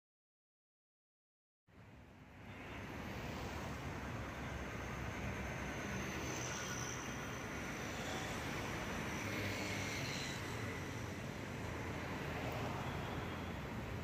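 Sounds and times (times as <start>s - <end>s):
road traffic rumble: 1.7s - 14.0s.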